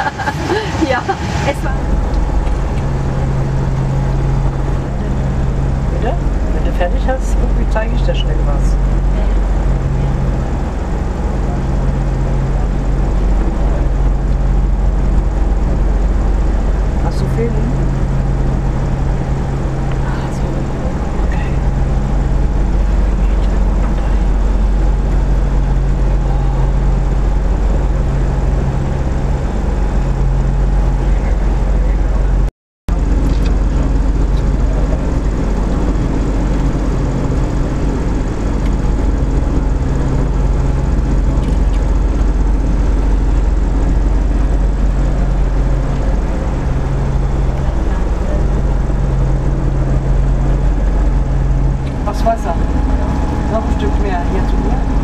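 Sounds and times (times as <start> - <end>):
airship engines droning: 0.0 - 55.0.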